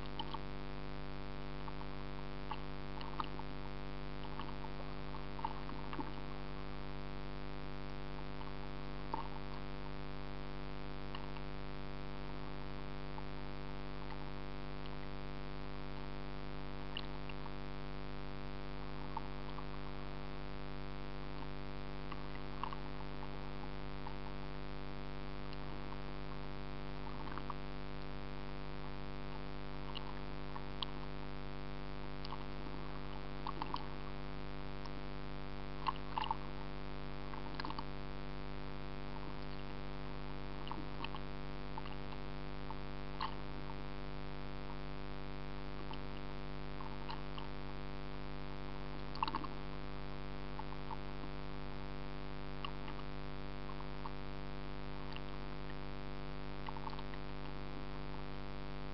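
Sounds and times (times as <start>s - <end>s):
faint irregular ticks and clicks: 0.0s - 58.9s
steady tonal hum: 0.0s - 58.9s.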